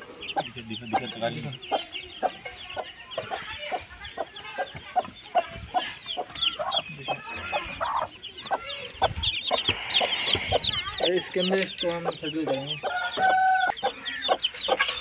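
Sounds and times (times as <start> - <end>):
chicks peeping: 0.0 - 15.0
hen clucking: 0.0 - 15.0.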